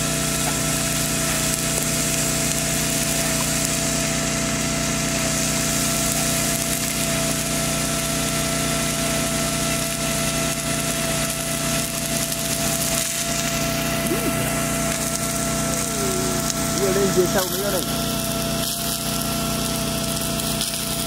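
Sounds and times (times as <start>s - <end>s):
machine drone with whine: 0.0s - 21.0s
water spraying from sprinkler: 0.0s - 21.0s.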